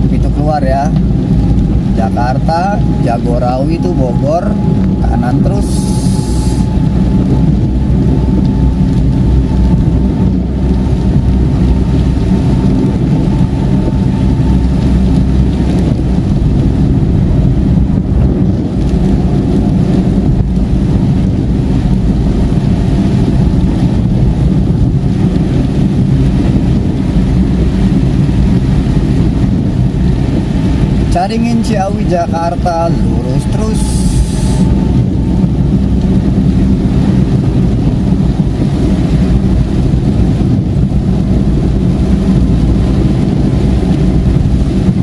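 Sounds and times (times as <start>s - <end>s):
car road and engine rumble: 0.0s - 45.0s
rain on car: 0.0s - 45.0s.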